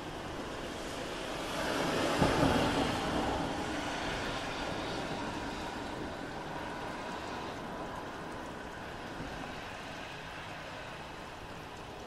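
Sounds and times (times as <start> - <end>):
car tyres hissing on wet road: 0.0 - 12.0
steady rain hiss: 0.0 - 12.0.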